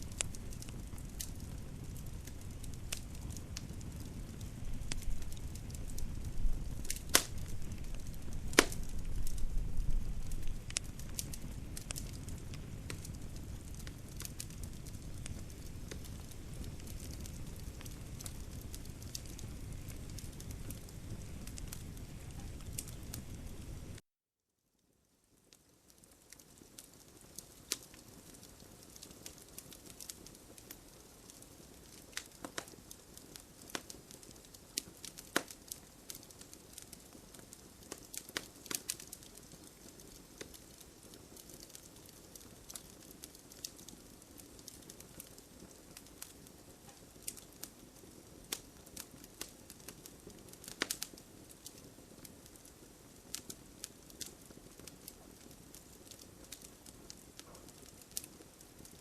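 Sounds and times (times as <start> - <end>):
wood fire crackling: 0.0 - 24.0, 24.8 - 59.0.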